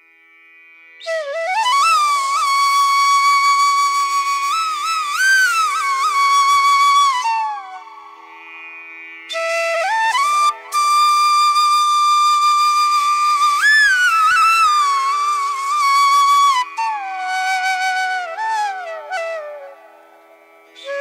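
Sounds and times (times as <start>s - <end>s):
flute-like melody: 1.0s - 8.3s, 9.3s - 21.0s.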